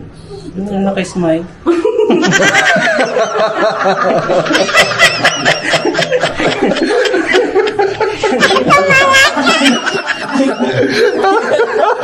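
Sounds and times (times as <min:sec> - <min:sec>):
people laughing and giggling: 0:01.7 - 0:12.0.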